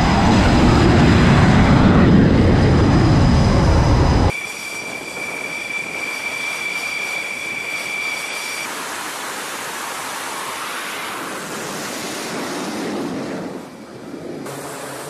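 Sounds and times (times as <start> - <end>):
jet engines whining and roaring: 0.0 - 15.0.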